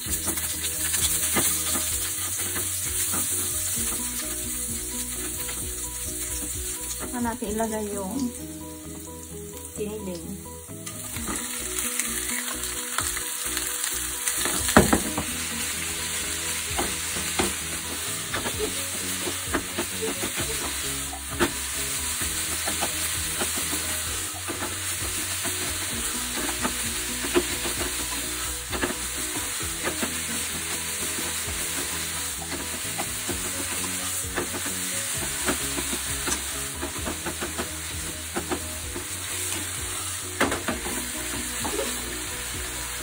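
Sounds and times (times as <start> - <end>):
meat sizzling in frying pan: 0.0 - 43.0.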